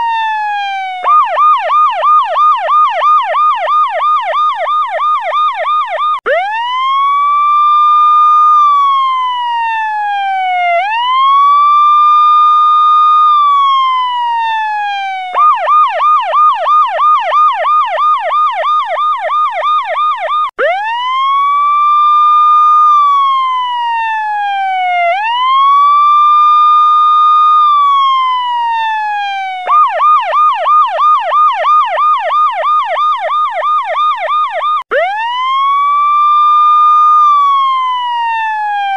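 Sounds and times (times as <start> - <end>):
electronic siren yelping and wailing: 0.0 - 38.9.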